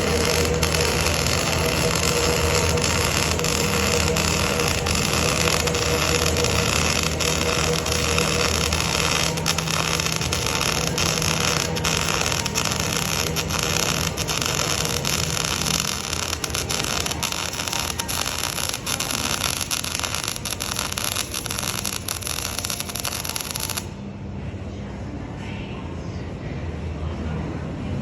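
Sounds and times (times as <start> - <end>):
arc welding crackling hiss: 0.0 - 24.0.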